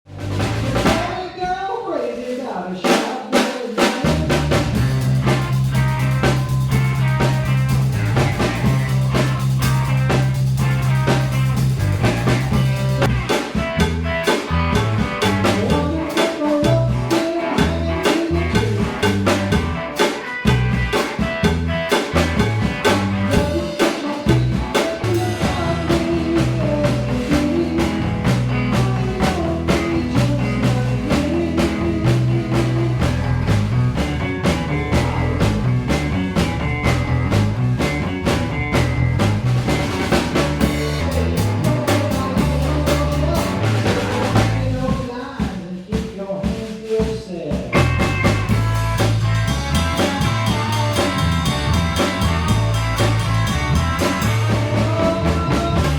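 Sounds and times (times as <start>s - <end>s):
bluesy rock band music: 0.1s - 1.6s, 2.8s - 55.9s
drums steady beat: 0.1s - 55.9s.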